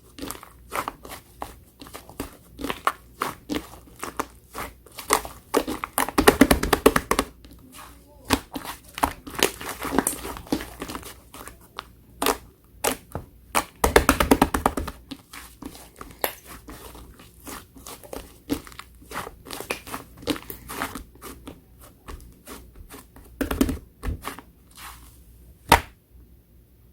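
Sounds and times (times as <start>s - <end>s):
slime being squished: 0.0s - 26.0s.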